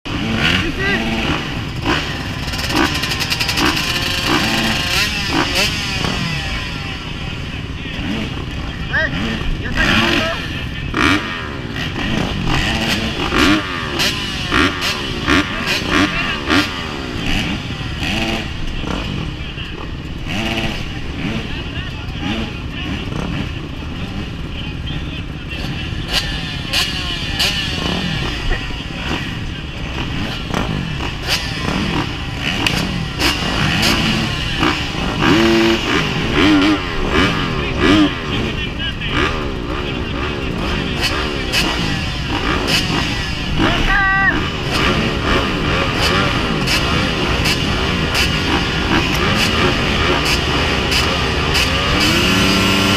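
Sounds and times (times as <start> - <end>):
motocross bike engines revving: 0.0 - 52.9.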